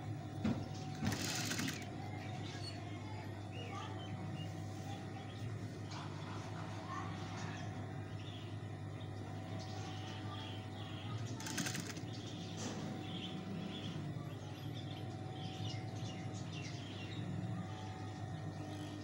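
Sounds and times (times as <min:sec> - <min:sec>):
steady low hum: 0:00.0 - 0:19.0
birds chirping: 0:00.4 - 0:19.0.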